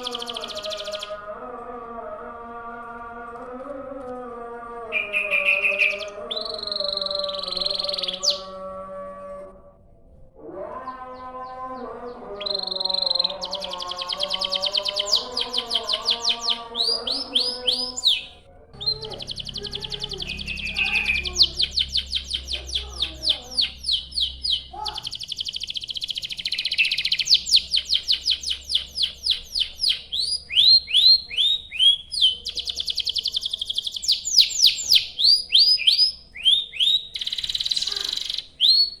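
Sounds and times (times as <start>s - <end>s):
canary singing trills: 0.0s - 1.3s, 4.9s - 8.7s, 10.8s - 39.0s.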